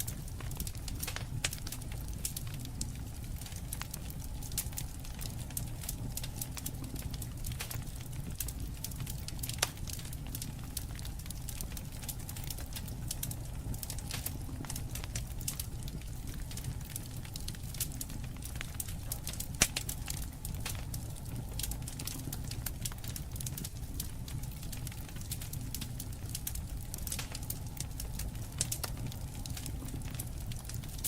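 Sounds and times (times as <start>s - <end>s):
campfire crackling: 0.0s - 31.0s
flame rumble: 0.0s - 31.0s
loud fire pops: 0.0s - 31.0s.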